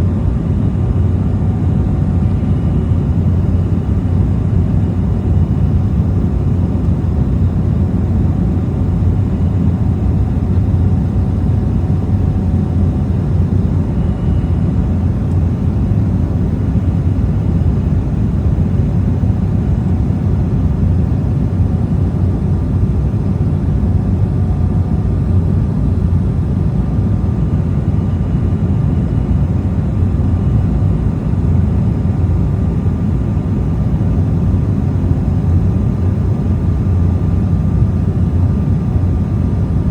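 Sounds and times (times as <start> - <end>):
airliner cabin rumble: 0.0 - 39.9
faint steady whine: 0.0 - 39.9.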